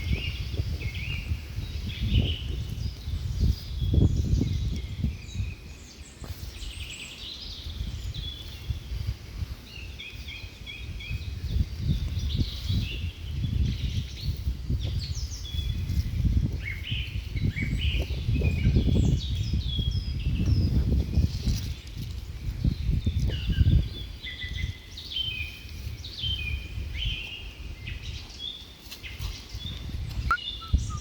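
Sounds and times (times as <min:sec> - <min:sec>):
birds chirping and twittering: 0:00.0 - 0:31.0.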